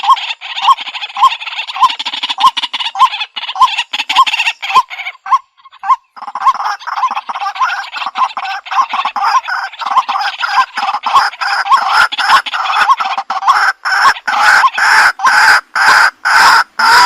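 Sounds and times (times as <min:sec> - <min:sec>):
waterhen calling rough kwak: 0:00.0 - 0:17.0.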